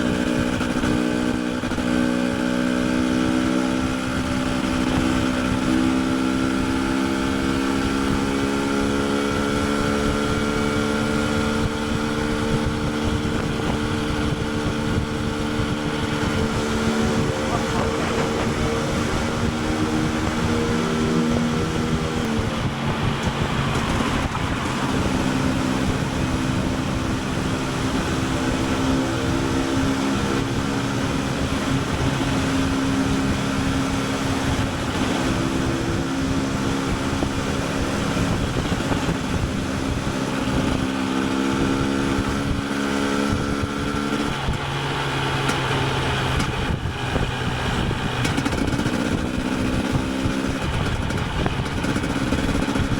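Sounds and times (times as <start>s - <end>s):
two-stroke motorcycle engine: 0.0s - 52.9s.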